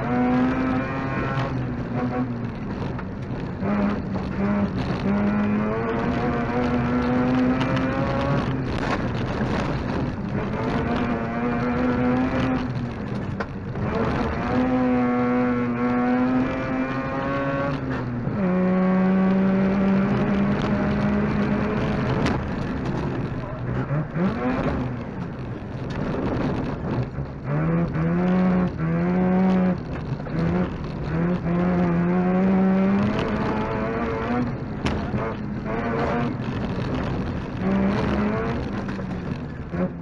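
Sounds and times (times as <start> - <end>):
rotary engine revving: 0.0 - 40.0.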